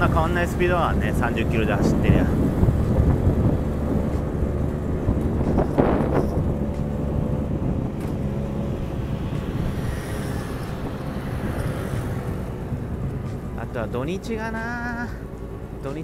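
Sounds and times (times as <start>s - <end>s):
scooter engine running: 0.0s - 16.0s
wind buffeting microphone: 0.0s - 16.0s.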